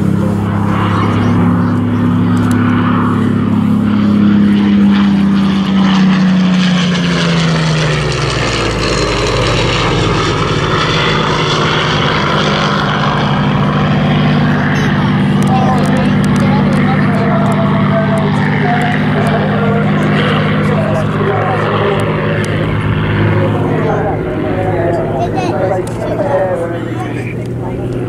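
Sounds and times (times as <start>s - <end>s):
propeller plane flying past: 0.0s - 28.0s.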